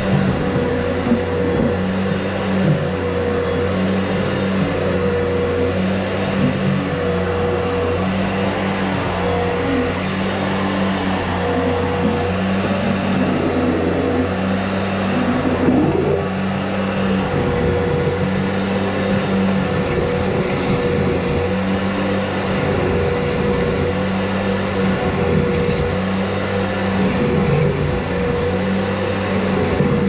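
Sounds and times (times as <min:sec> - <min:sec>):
machine motor humming: 0:00.0 - 0:30.0.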